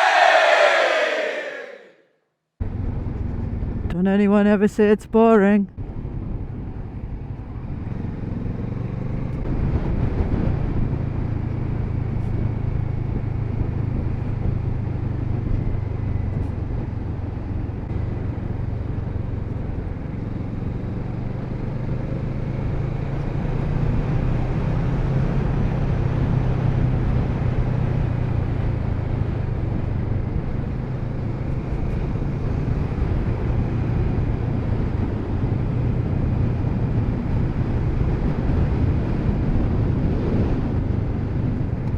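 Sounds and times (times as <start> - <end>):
wind and road noise: 0.0 - 1.9, 2.6 - 41.9.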